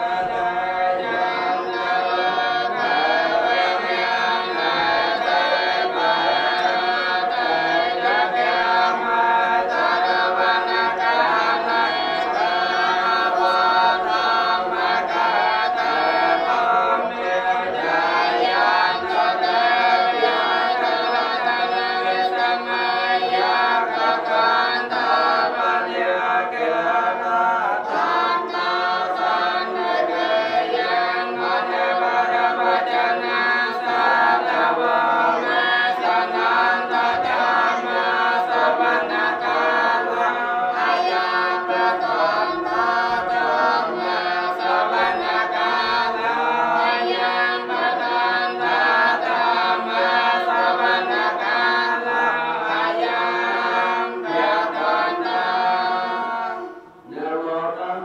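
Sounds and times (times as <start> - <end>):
monks chanting in group: 0.0 - 58.0.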